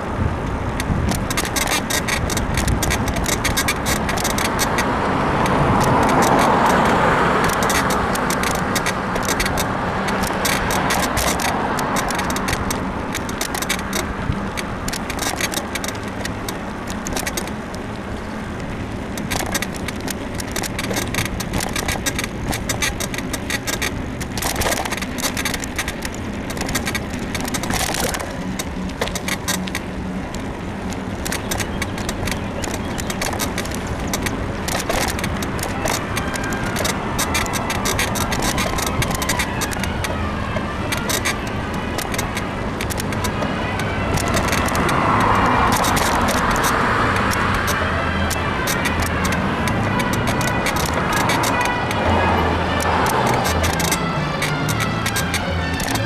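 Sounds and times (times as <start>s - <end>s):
bike suspension creaking and clicking: 0.0s - 56.0s
rushing wind: 0.0s - 56.0s
tyre noise: 0.0s - 56.0s.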